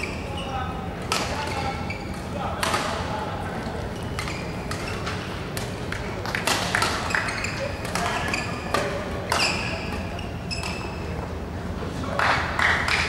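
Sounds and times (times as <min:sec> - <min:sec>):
shoes squeaking on court floor: 0:00.0 - 0:03.0, 0:03.6 - 0:11.4.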